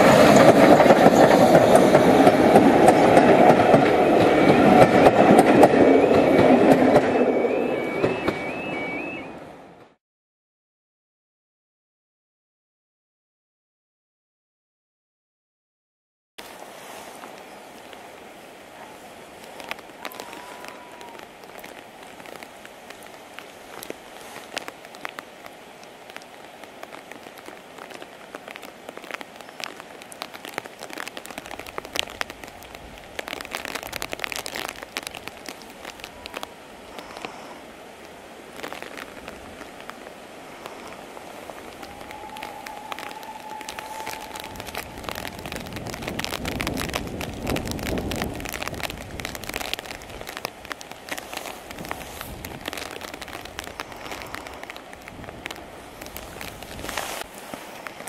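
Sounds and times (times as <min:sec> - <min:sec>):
raindrops ticking close by: 0:00.0 - 0:07.0, 0:16.4 - 0:58.0
rain falling: 0:00.0 - 0:09.1, 0:16.4 - 0:58.0.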